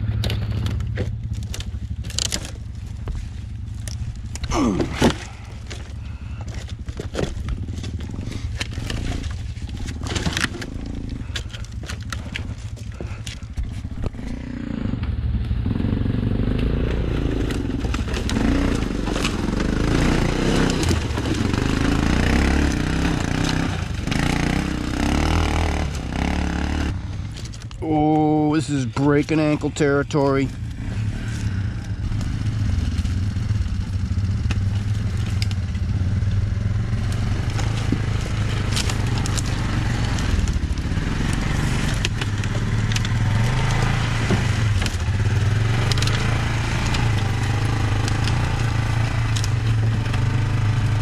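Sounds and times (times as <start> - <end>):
sticks crunching and snapping: 0.0 - 14.6, 16.4 - 51.0
atv engine running: 0.0 - 51.0.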